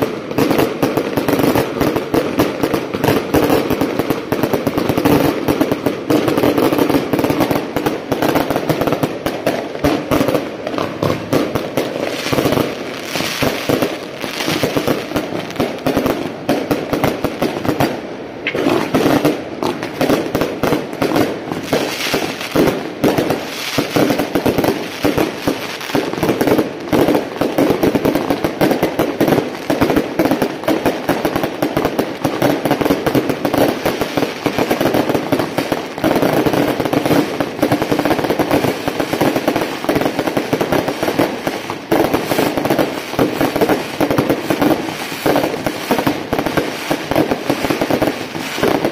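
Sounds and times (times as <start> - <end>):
firecrackers crackling rapidly: 0.0 - 48.9.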